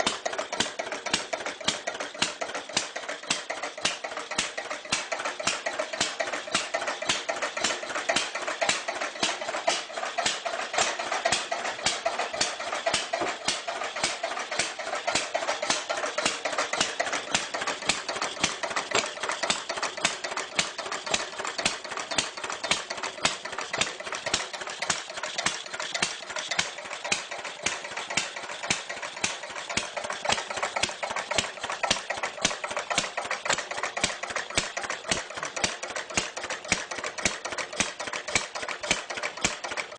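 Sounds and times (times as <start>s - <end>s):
old engine idling with clatter: 0.0s - 39.9s.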